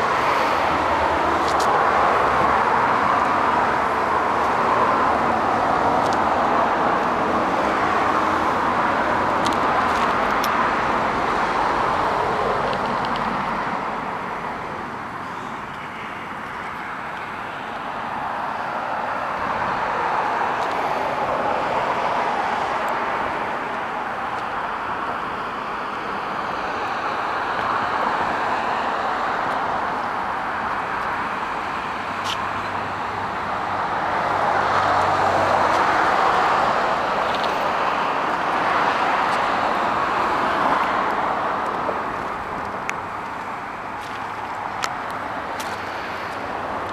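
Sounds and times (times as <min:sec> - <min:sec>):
distant road traffic: 0:00.0 - 0:46.9.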